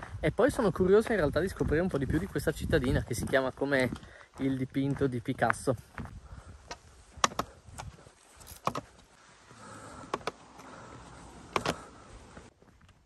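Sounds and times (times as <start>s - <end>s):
footsteps on hard path: 0.0s - 13.0s.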